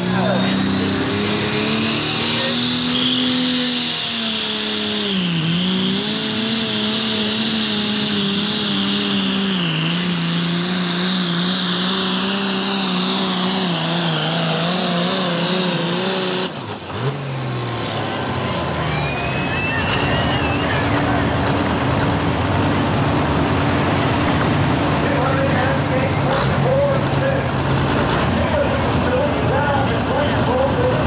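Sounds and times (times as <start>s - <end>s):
diesel tractor engine under load: 0.0s - 31.0s
high turbo whine: 0.0s - 31.0s.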